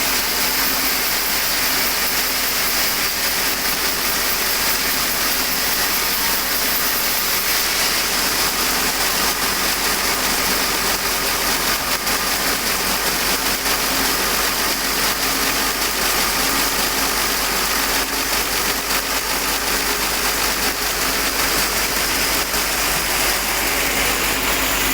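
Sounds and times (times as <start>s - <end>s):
sawmill machinery running: 0.0s - 24.9s.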